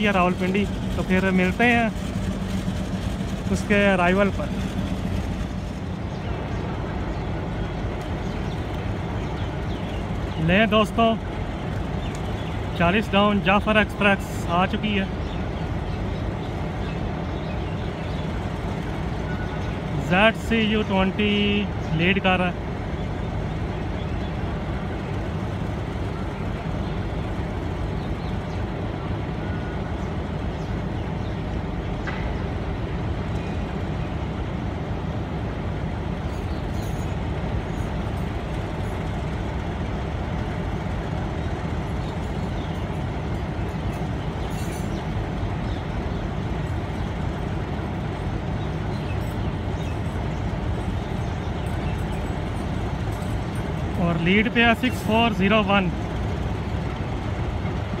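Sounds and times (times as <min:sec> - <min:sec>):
diesel locomotive engine idling: 0:00.0 - 0:58.0.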